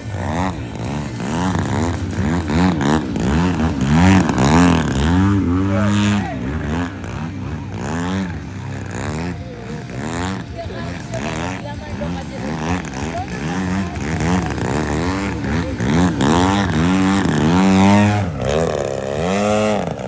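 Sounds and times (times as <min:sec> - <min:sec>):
model airplane motor and propeller: 0:00.0 - 0:20.0.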